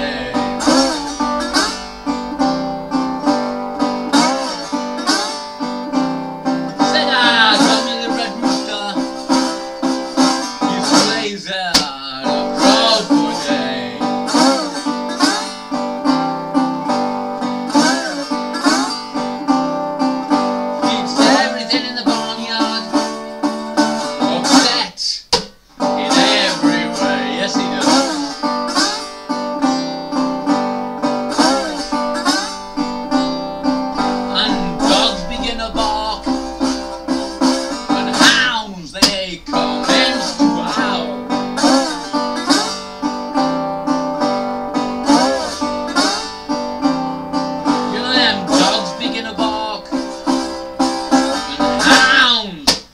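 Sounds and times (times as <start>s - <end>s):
slide guitar blues: 0.0s - 52.8s.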